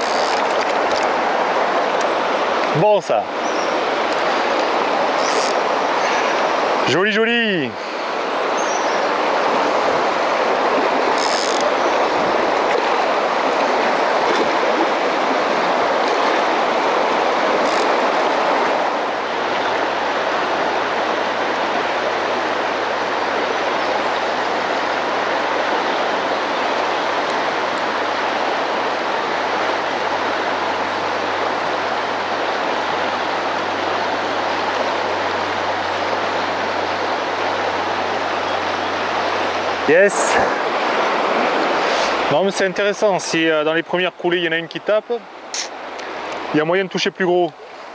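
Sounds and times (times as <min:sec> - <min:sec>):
river current rushing: 0:00.0 - 0:47.9
water splashes: 0:00.0 - 0:47.9.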